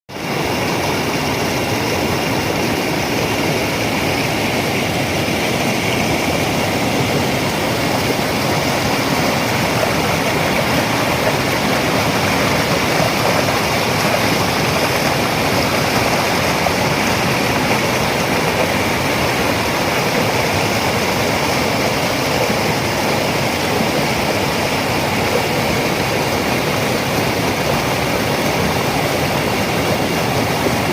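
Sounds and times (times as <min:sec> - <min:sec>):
river water rushing: 0:00.1 - 0:30.9.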